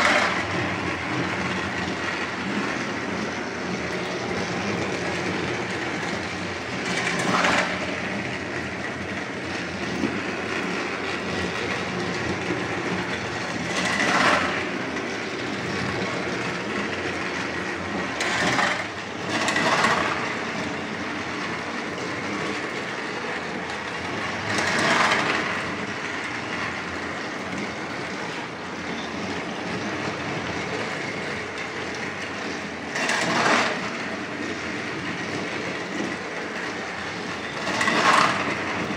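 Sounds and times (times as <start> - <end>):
toy train motor whir: 0.0 - 2.8, 4.7 - 20.5, 21.1 - 28.5, 29.9 - 38.9
toy train wheel rattle: 0.0 - 38.9.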